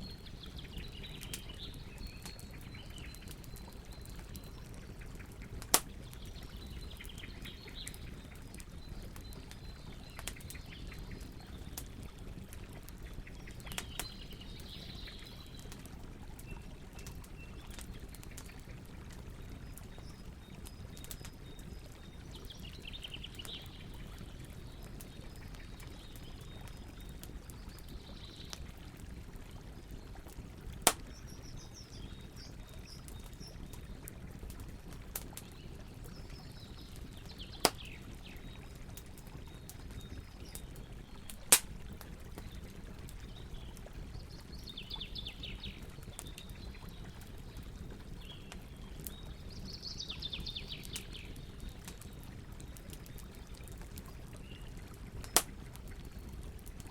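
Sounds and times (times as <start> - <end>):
fire crackling pops: 0.5 - 29.3, 30.1 - 49.7, 50.8 - 56.9.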